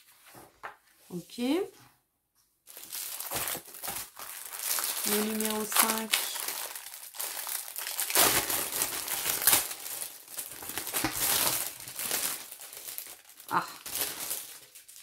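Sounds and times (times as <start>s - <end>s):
packaging crinkling and rustling: 2.7s - 15.0s.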